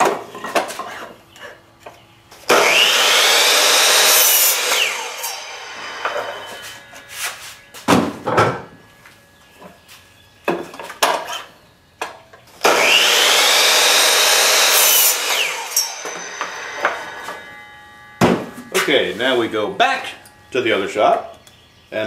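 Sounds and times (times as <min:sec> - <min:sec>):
miter saw cutting wood: 0:00.6 - 0:09.9, 0:12.5 - 0:21.4.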